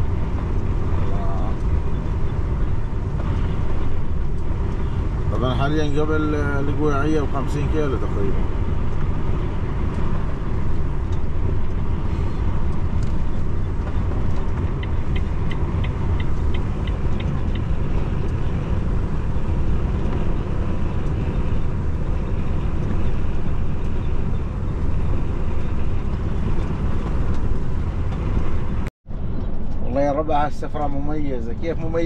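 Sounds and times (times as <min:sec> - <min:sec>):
light evenly spaced ticks: 0:00.0 - 0:27.5
truck cab rumble at speed: 0:00.0 - 0:32.0
tyres on wet road: 0:00.0 - 0:32.0.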